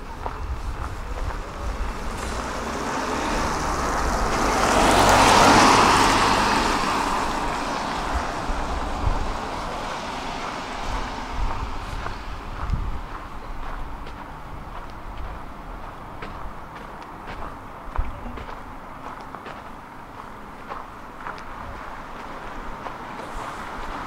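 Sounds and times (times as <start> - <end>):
vehicle tyre and road noise: 0.0 - 24.0.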